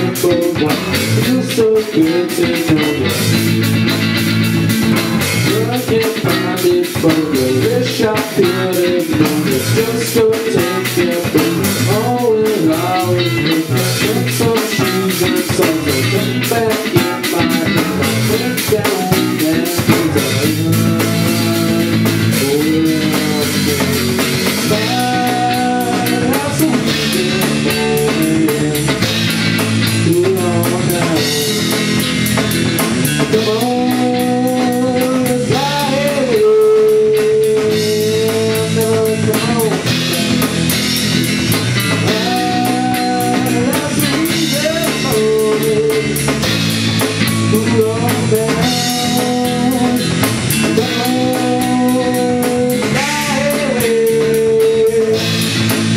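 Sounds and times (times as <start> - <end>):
blues rock guitar melody: 0.0 - 55.9
drum kit: 0.0 - 55.9.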